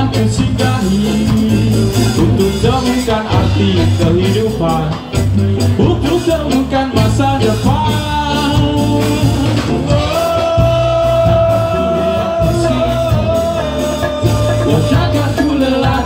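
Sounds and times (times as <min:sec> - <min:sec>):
ska band playing amplified music: 0:00.0 - 0:16.0.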